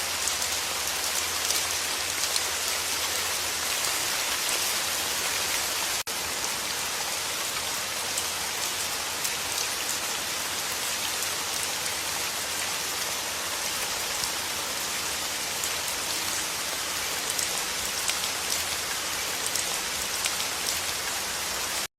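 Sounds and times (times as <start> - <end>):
soft rain falling: 0.0 - 21.9.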